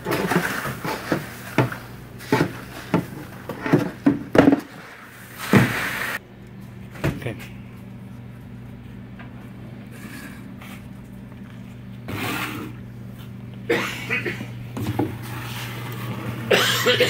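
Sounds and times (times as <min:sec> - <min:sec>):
ice machine humming: 0:00.0 - 0:06.2, 0:09.3 - 0:17.0.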